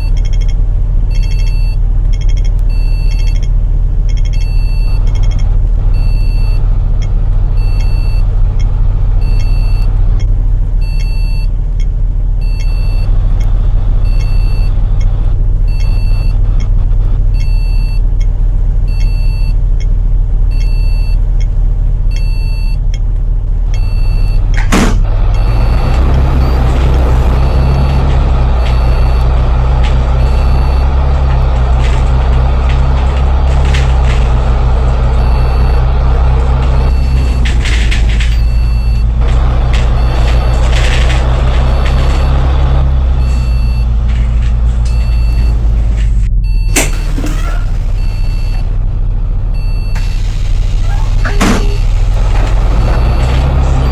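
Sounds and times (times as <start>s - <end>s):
bus engine idling: 0.0s - 53.9s.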